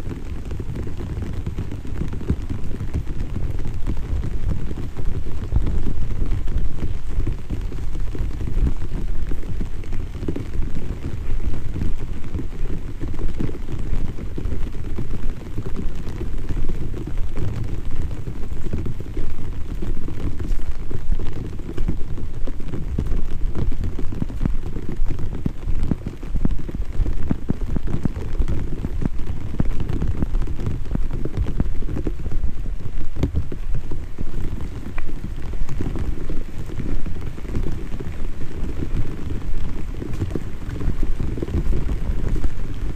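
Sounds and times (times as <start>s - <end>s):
rain drops pattering: 0.0s - 42.9s.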